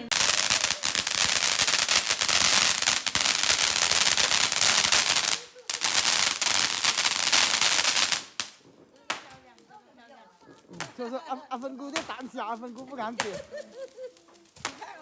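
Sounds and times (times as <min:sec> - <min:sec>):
fireworks crackling pops: 0:00.0 - 0:15.0.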